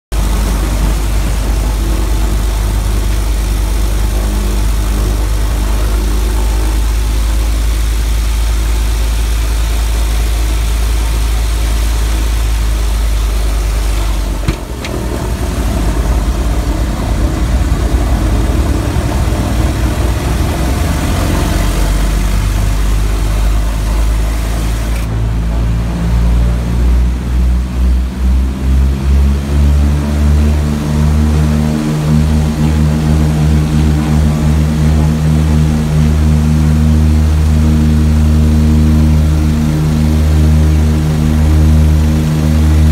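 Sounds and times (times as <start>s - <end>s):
radial engines droning: 0.1s - 42.9s.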